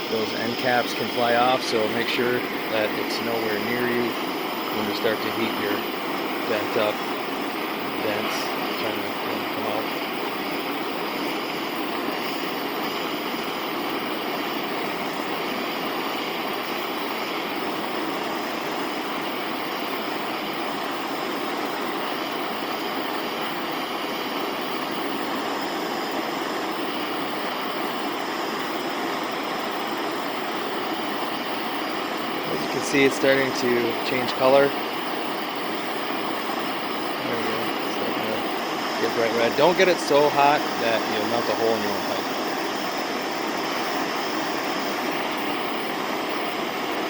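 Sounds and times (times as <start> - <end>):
gas torch flame hissing: 0.0 - 47.0.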